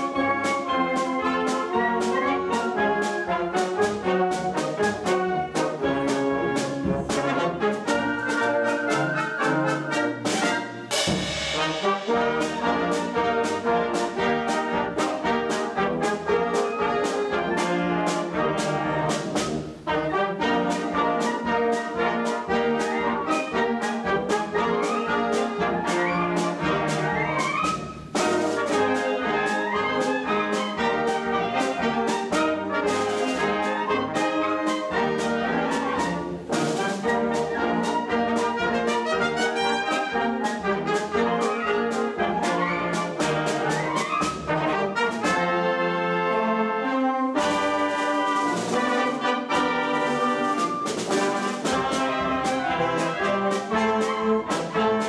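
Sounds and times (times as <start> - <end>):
concert band playing: 0.0 - 46.5, 47.4 - 55.0.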